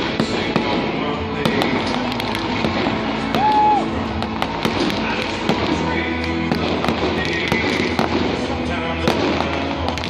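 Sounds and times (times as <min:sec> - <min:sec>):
background music with low notes: 0:00.0 - 0:10.0
fireworks pops and crackling: 0:00.0 - 0:10.0.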